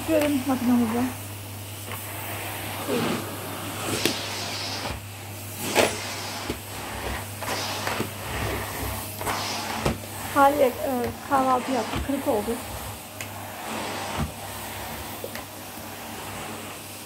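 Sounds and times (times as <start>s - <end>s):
vacuum cleaner on rug: 0.0s - 17.0s.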